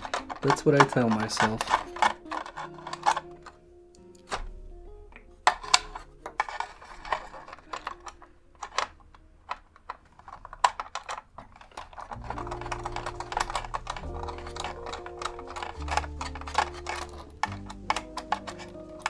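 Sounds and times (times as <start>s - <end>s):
background music: 0.0s - 9.6s, 11.8s - 19.0s
plastic parts clicking and tapping: 0.0s - 19.0s.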